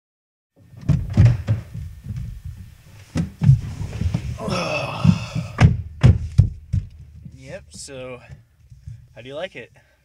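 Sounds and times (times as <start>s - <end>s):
dull thunks: 0.6s - 9.2s.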